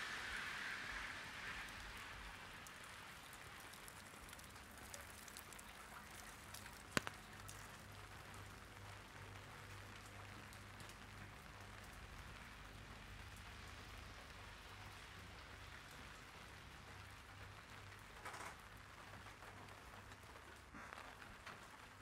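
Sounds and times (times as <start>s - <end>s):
light rain on an umbrella: 0.0s - 22.0s.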